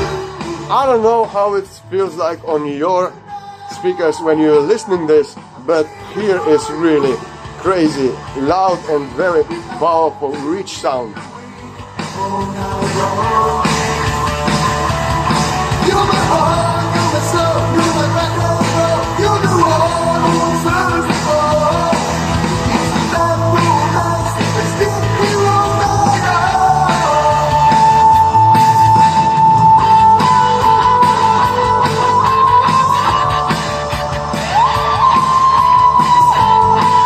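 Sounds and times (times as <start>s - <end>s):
rock music with singing: 0.0s - 37.0s.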